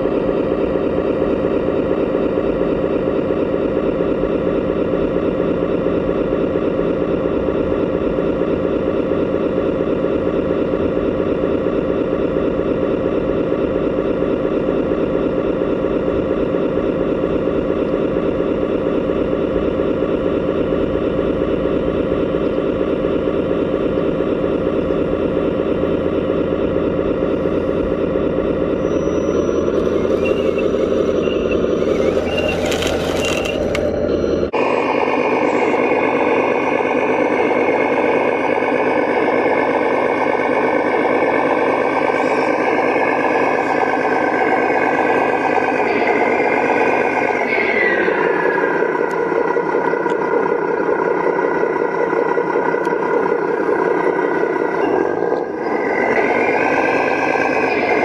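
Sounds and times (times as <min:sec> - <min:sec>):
model vehicle engine running: 0:00.0 - 0:58.0.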